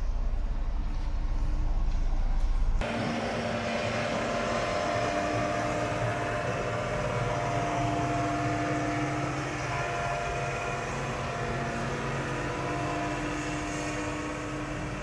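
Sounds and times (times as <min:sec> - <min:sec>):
road roller diesel engine running: 0:00.0 - 0:15.0.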